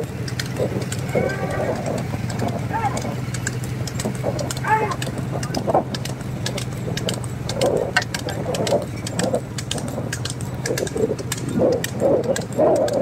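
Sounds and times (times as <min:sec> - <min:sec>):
cart clattering and clicking: 0:00.0 - 0:13.0
low engine hum: 0:00.0 - 0:13.0.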